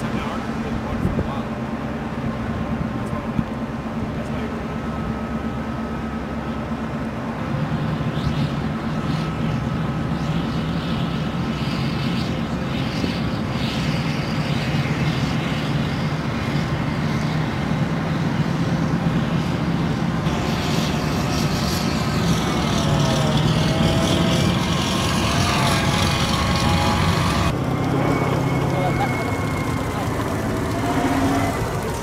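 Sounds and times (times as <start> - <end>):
diesel engines running: 0.0 - 32.0.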